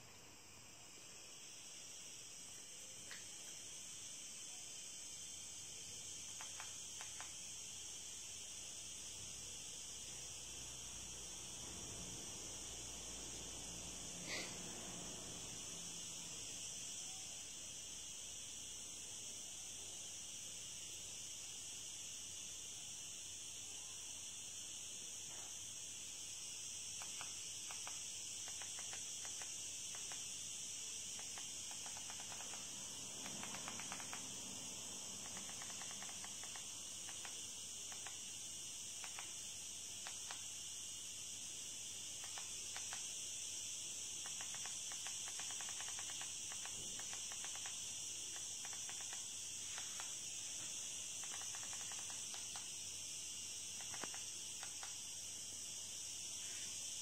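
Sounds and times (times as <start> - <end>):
steady high-pitched hiss: 0.0 - 57.0.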